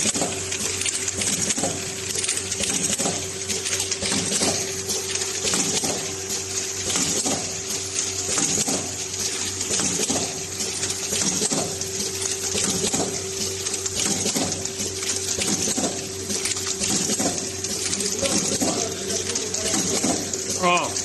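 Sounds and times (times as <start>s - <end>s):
machine motor hum: 0.0s - 21.0s
mechanical clatter: 0.0s - 21.0s.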